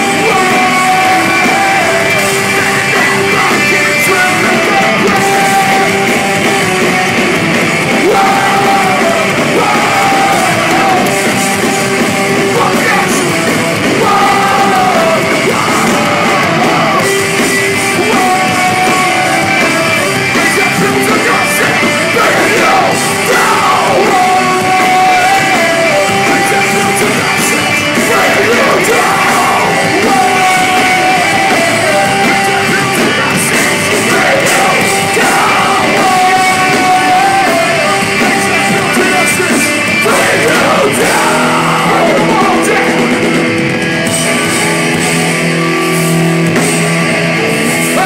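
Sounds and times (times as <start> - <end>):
shouted vocals: 0.0 - 46.5, 47.5 - 48.0
high guitar line: 0.0 - 48.0
metalcore band playing live: 0.0 - 48.0.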